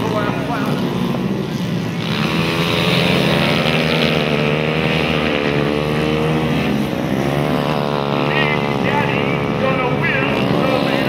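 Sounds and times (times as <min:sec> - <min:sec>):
motorcycle engines racing: 0:00.0 - 0:11.0.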